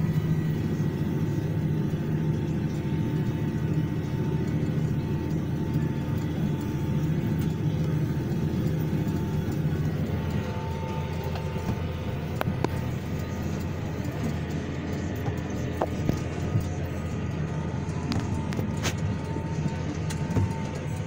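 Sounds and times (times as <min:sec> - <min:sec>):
faint steady whine: 0:00.0 - 0:21.0
tractor engine running: 0:00.0 - 0:21.0.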